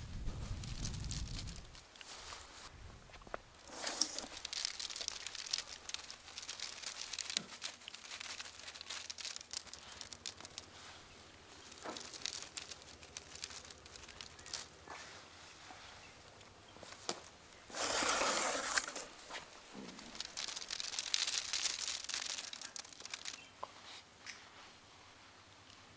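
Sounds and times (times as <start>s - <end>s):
tea leaves rustling: 0.0s - 24.6s.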